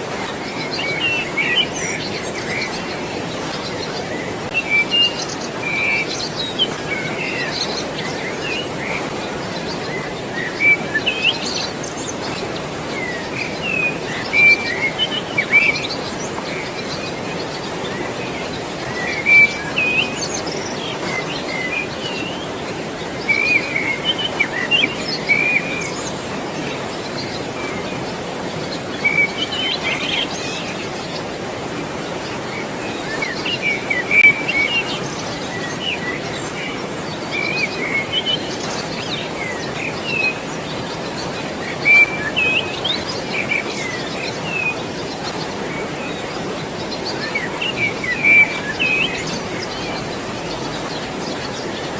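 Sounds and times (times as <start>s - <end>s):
flowing water rushing: 0.0s - 51.9s
birds chirping and calling: 0.3s - 51.9s.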